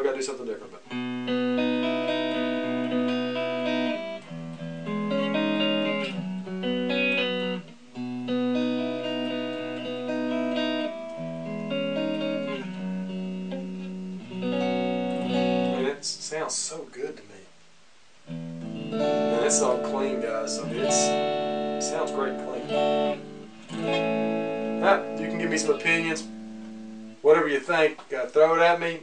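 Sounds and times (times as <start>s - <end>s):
clean electric guitar chords: 0.9s - 16.0s, 18.3s - 27.3s.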